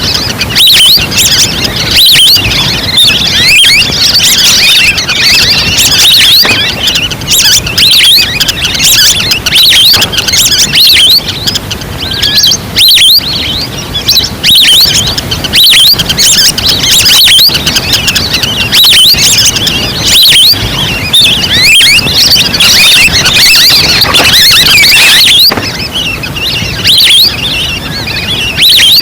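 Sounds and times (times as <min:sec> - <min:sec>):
ducks whistling calls: 0:00.0 - 0:29.0.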